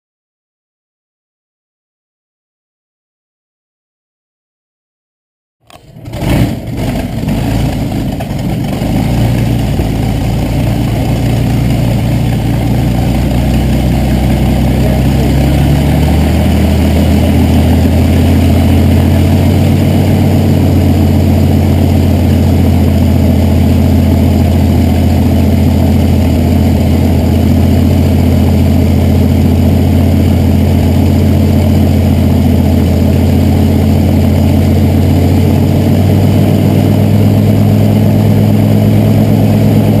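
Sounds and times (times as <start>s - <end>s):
piston aero engines idling: 5.7s - 40.0s.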